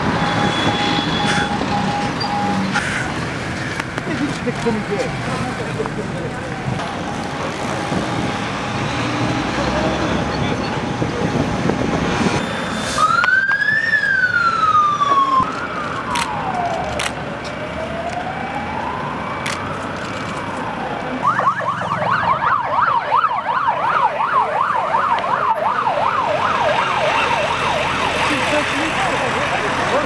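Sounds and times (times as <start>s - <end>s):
police siren: 0.0s - 3.0s, 6.1s - 30.0s
road traffic noise: 0.0s - 30.0s.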